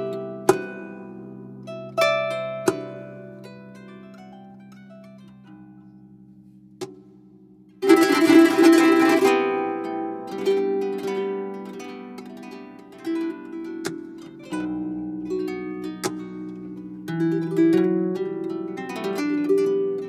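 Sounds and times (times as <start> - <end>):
harp playing flamenco: 0.0 - 7.0, 7.7 - 20.0.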